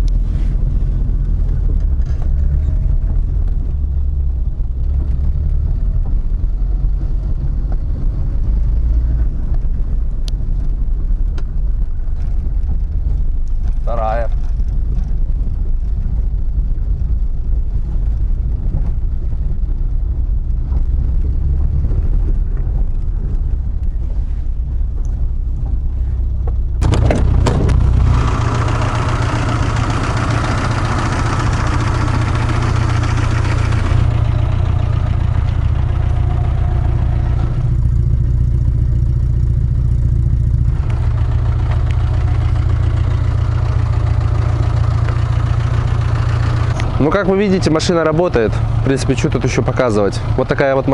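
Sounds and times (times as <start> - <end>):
car engine drone: 0.0 - 50.9
road and wind noise hiss: 0.0 - 50.9.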